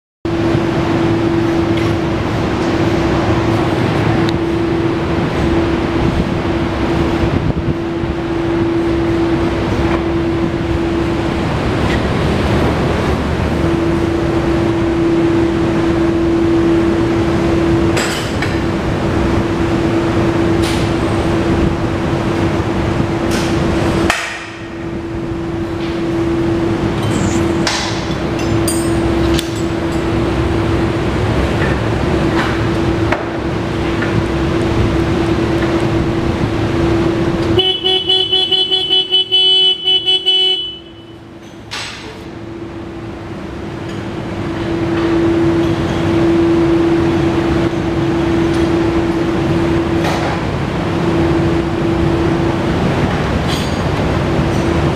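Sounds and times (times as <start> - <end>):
machine hum with constant tone: 0.3 - 54.9.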